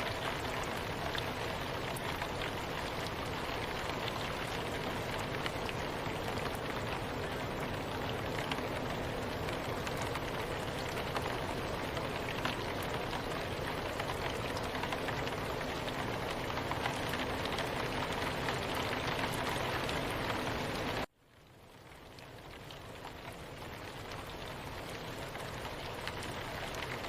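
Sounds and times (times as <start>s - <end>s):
soft steady rain: 0.0s - 27.0s.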